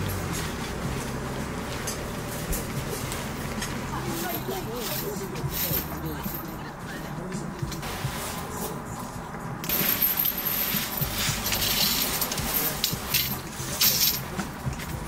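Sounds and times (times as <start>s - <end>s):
metal objects clinking: 0.0s - 8.8s, 9.6s - 15.0s.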